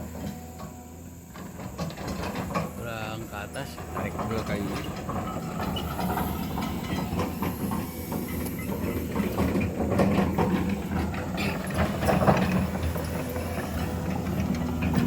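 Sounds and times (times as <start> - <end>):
heavy machine engine running: 0.0 - 15.0
metallic clanks and knocks: 0.0 - 15.0.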